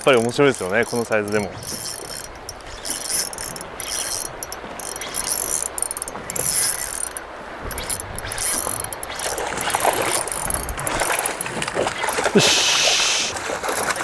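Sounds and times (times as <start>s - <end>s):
fishing reel whirring: 0.0s - 13.3s.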